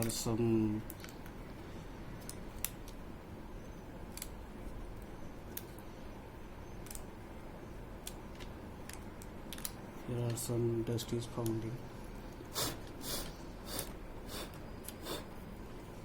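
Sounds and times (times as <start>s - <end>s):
faint room noise: 0.0s - 16.0s.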